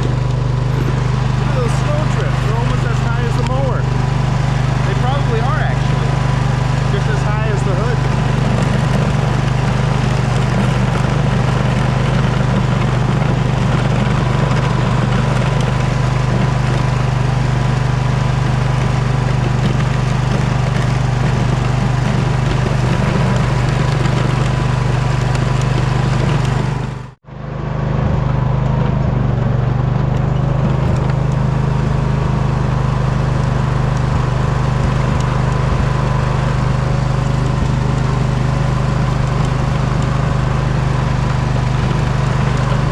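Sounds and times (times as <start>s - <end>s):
riding mower engine running: 0.0s - 42.9s.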